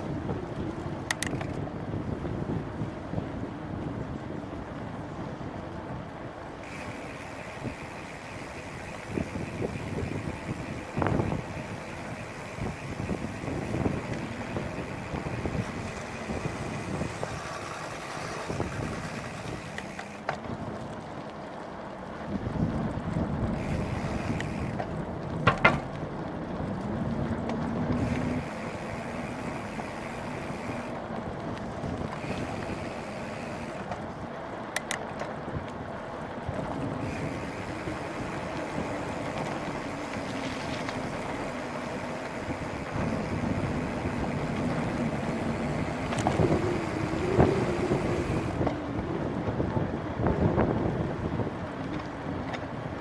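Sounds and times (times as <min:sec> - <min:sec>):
bike rumbling on rough trail: 0:00.0 - 0:53.0
wind buffeting microphone: 0:00.0 - 0:53.0.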